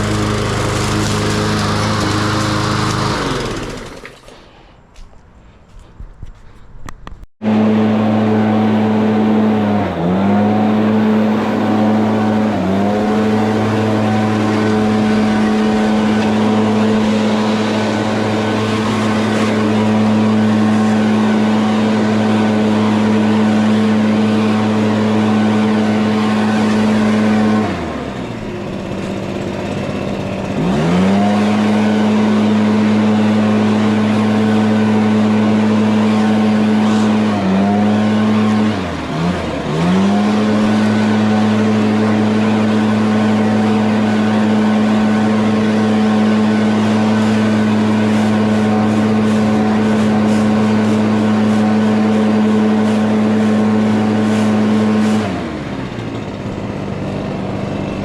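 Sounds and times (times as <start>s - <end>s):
petrol lawn mower engine running: 0.0s - 4.7s, 7.4s - 58.0s.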